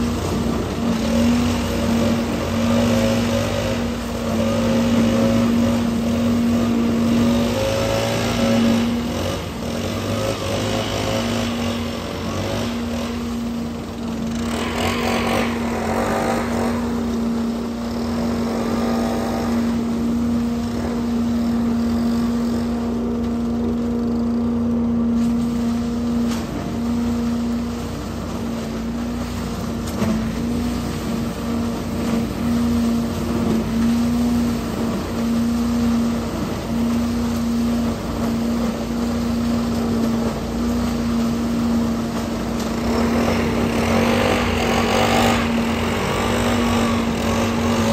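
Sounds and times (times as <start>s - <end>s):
leaf vacuum engine running: 0.0s - 47.9s
leaves sucked through hose: 0.0s - 47.9s.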